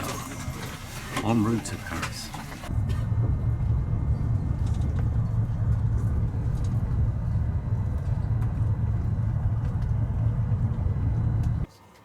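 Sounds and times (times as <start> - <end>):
train running low rumble: 0.0 - 11.7.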